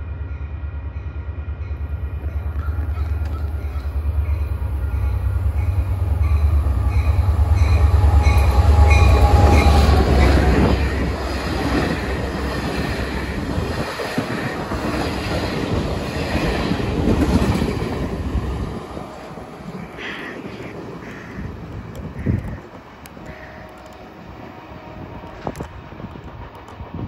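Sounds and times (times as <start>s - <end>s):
locomotive engine rumble: 0.0s - 27.0s
wheels rattling on rails: 1.7s - 27.0s.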